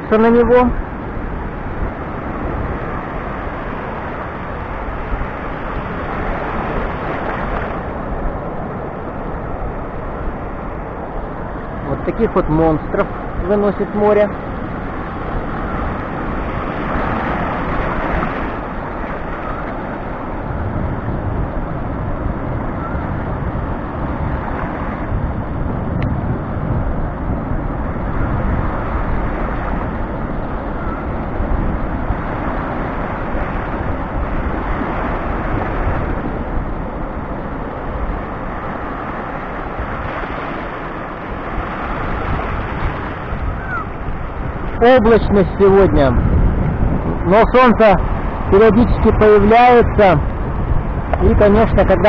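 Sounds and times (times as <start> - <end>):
surf washing over rocks: 0.0 - 52.0
wind buffeting microphone: 0.0 - 52.0.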